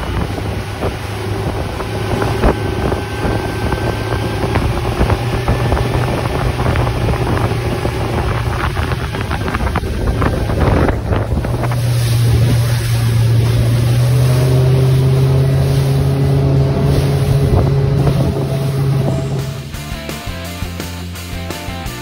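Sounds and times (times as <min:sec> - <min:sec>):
wind buffeting microphone: 0:00.0 - 0:19.8
hull slapping on waves: 0:00.0 - 0:20.3
water rushing past hull: 0:00.0 - 0:21.3
motorboat engine droning: 0:00.0 - 0:22.0.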